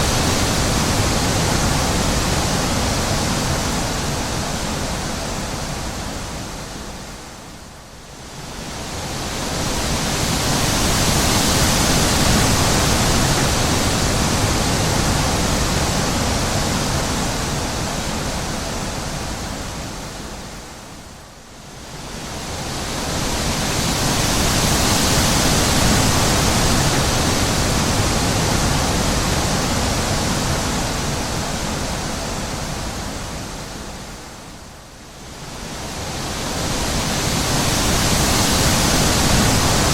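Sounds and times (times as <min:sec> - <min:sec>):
wind blowing in gusts: 0:00.0 - 0:39.9.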